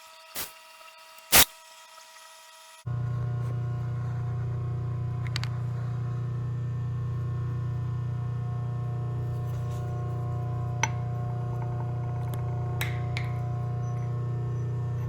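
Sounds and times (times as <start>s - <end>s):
low electrical hum: 2.9s - 15.0s.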